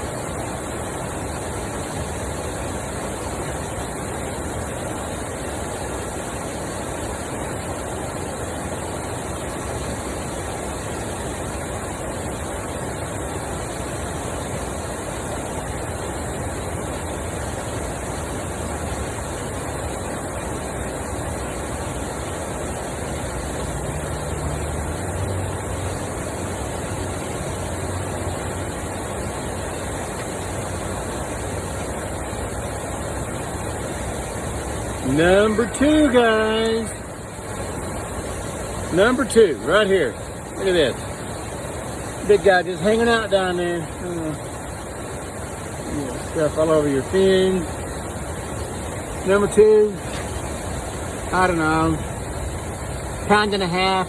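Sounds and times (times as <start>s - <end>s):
water rushing over spillway: 0.0s - 54.0s.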